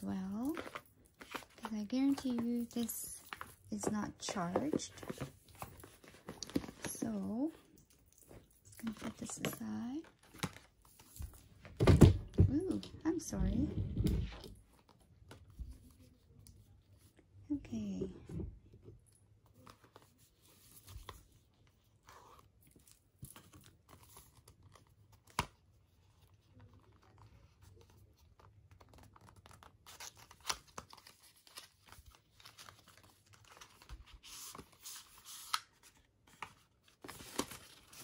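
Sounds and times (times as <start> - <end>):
cardboard and paper packaging rustling: 0.0 - 17.2, 18.6 - 38.0.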